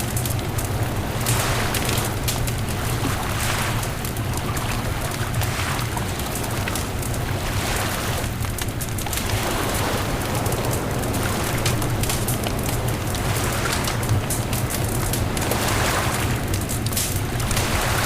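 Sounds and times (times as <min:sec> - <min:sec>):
bonfire crackling: 0:00.0 - 0:18.0
wind: 0:00.0 - 0:18.0
surf: 0:00.5 - 0:18.0.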